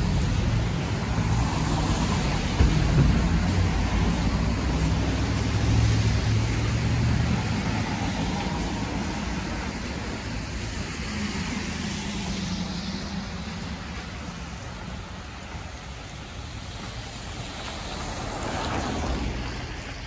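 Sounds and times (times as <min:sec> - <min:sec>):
car tyres hissing on wet road: 0:00.0 - 0:20.0.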